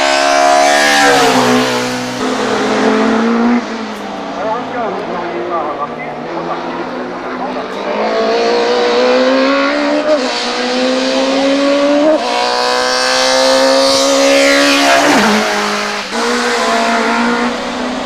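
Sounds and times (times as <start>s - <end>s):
race car engine at full throttle: 0.0s - 18.0s.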